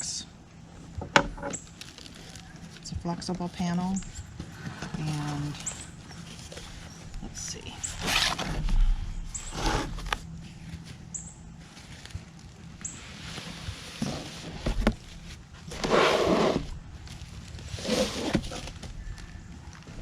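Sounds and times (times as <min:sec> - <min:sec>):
cardboard packaging rustling: 0:01.6 - 0:02.9, 0:03.5 - 0:07.2, 0:08.0 - 0:20.0.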